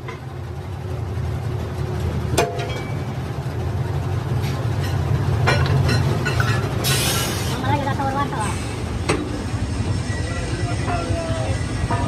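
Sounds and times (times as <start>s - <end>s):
machinery rumble: 0.0s - 12.0s.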